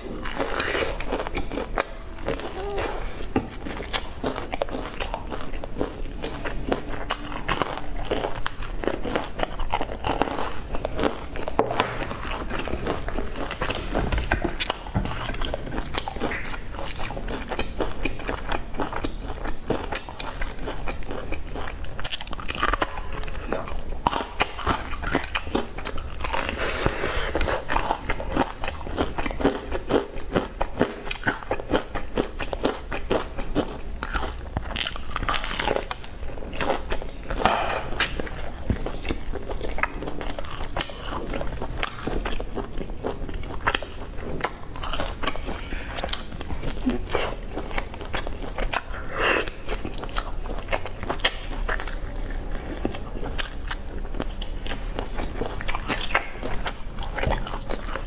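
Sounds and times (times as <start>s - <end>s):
crunchy bites and chewing: 0.0s - 58.0s.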